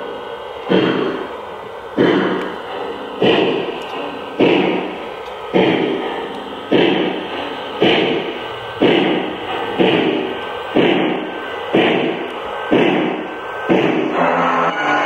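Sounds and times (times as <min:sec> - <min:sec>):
model steam locomotive chuffs: 0:00.0 - 0:15.0.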